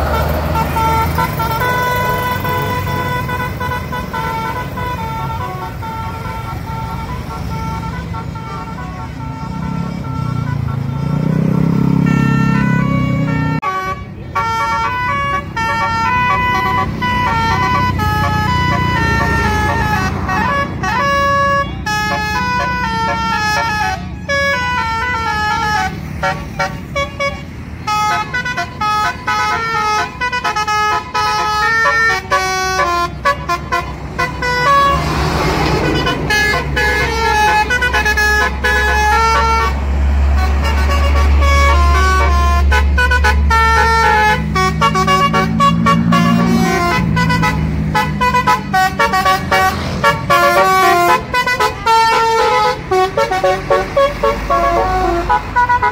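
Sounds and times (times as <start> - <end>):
low engine rumble: 0.0 - 55.9
melodic bus horn: 0.0 - 55.9.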